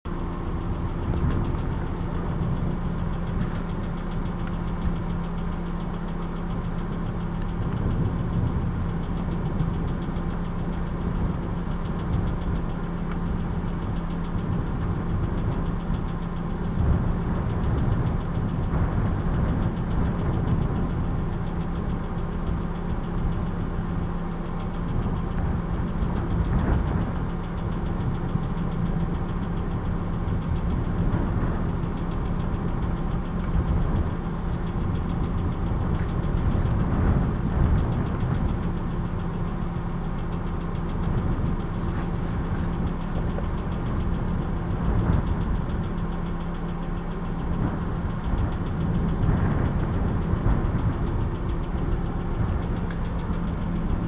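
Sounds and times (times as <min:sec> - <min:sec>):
vehicle engine idling: 0:00.0 - 0:54.0
wind buffeting microphone: 0:00.1 - 0:54.0.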